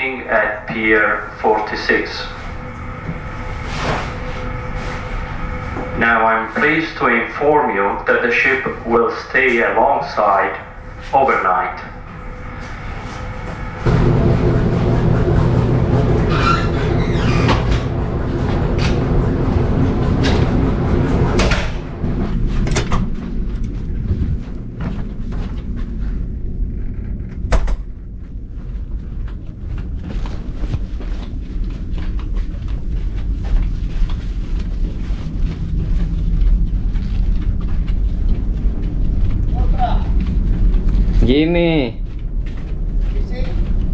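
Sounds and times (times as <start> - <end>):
low machinery hum: 0.0 - 43.9.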